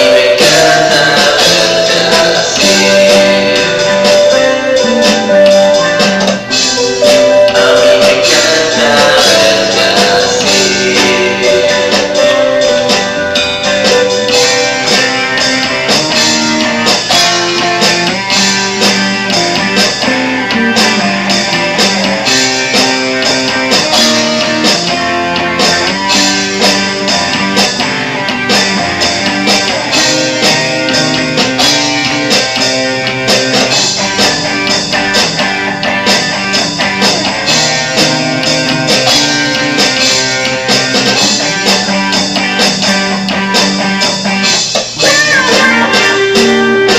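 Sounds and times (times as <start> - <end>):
instrumental psychedelic rock: 0.0 - 46.9.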